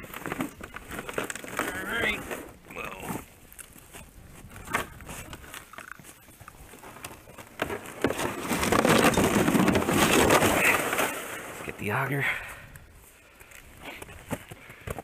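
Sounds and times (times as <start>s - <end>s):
sled scraping over snow and ice: 0.0s - 12.5s.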